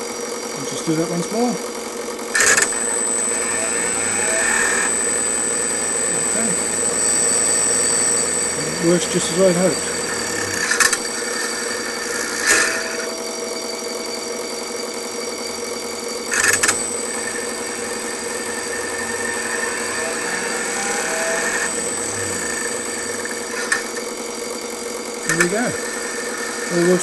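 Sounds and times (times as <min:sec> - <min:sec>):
cooling fan whirring: 0:01.8 - 0:27.0
electric oil pump humming: 0:02.1 - 0:27.0.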